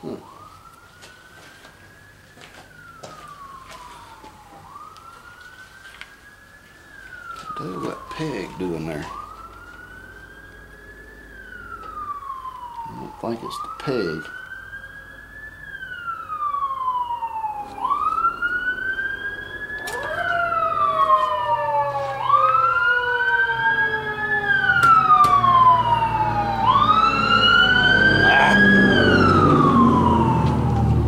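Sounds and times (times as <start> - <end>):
emergency sirens wailing: 0.0 - 31.0.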